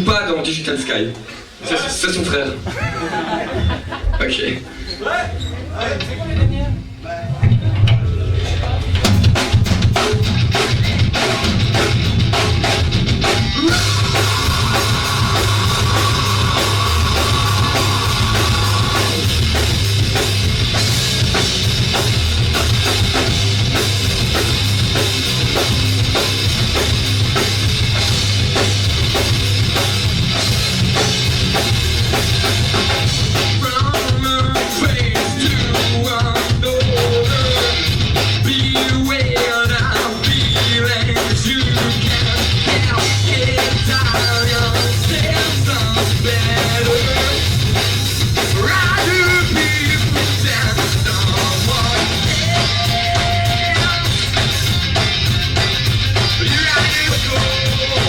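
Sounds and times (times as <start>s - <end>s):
drum kit beat: 5.2s - 58.0s
electric guitar: 6.7s - 58.0s.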